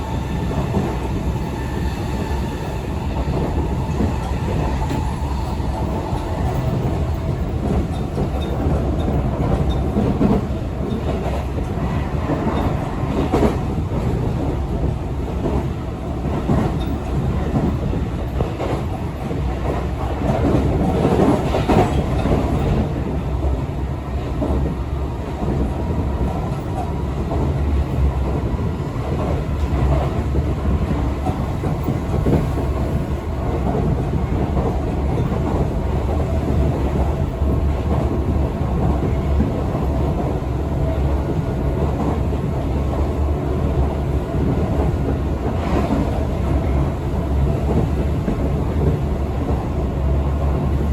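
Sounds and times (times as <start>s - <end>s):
train wheels rumbling on rail: 0.0s - 50.9s.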